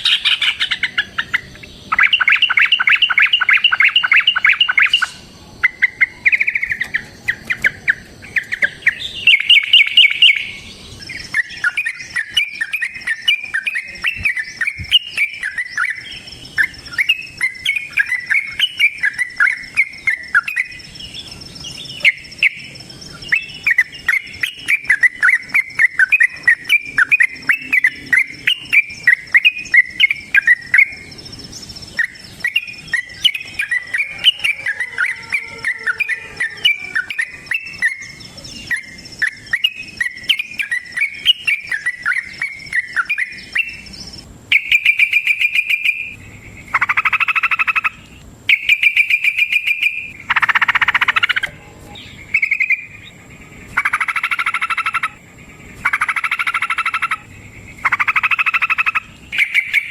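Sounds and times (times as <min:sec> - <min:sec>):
birds chattering song: 0:00.0 - 0:59.9.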